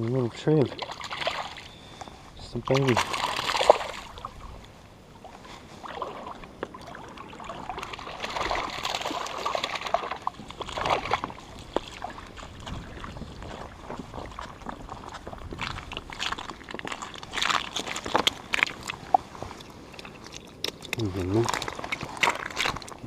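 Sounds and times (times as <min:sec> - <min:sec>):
water sloshing and trickling: 0:00.0 - 0:23.0.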